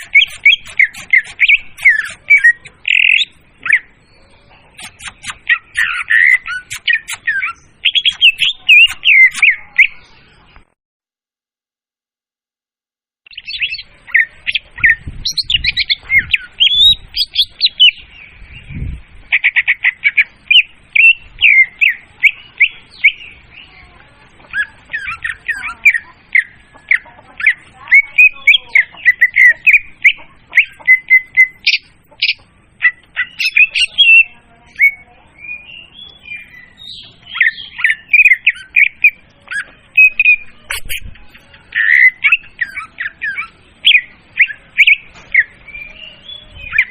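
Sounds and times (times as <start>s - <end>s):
recorded birdsong: 0.0s - 10.8s, 13.2s - 46.9s.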